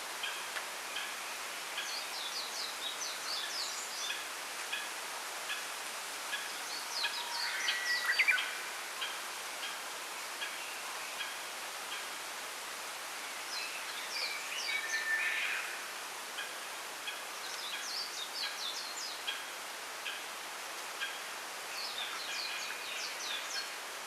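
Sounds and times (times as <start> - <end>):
wind rustling bamboo leaves: 0.0 - 24.0
songbirds chirping: 0.1 - 12.3, 13.0 - 24.0.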